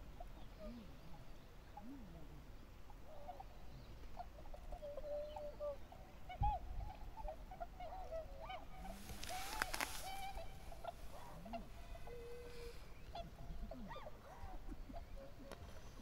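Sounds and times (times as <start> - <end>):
waterfowl honking: 2.9 - 15.9.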